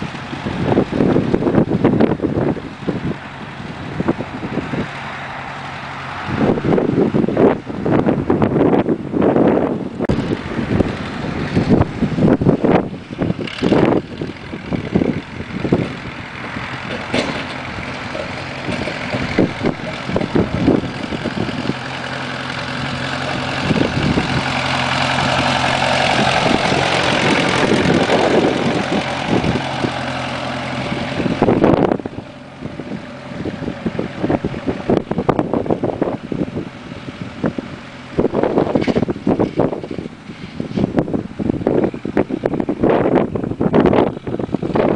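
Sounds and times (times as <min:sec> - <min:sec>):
tractor engine running: 0:00.0 - 0:44.9
wind buffeting microphone: 0:00.0 - 0:44.9.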